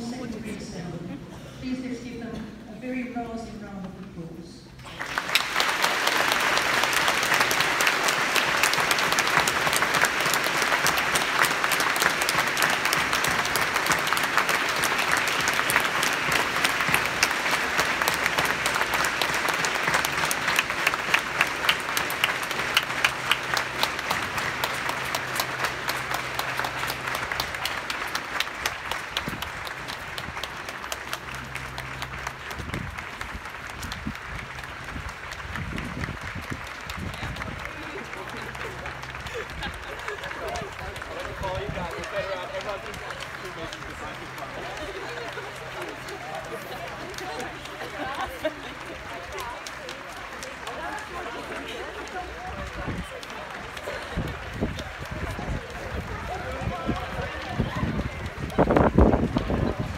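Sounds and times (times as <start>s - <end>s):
large crowd applauding: 4.8s - 59.9s.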